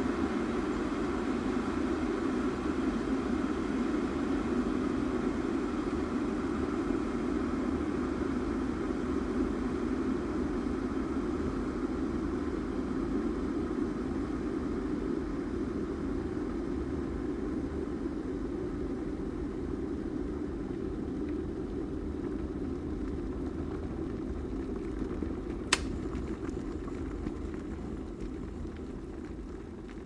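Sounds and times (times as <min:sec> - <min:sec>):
kettle boiling water: 0:00.0 - 0:30.0.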